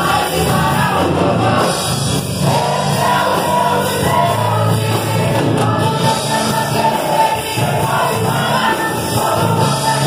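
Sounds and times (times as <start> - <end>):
choir singing gospel song: 0.0 - 10.0.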